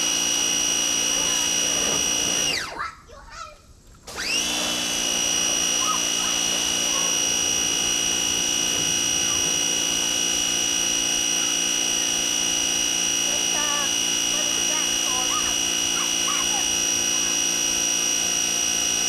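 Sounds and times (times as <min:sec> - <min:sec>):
pressure washer motor whining: 0:00.0 - 0:02.8, 0:04.1 - 0:19.0.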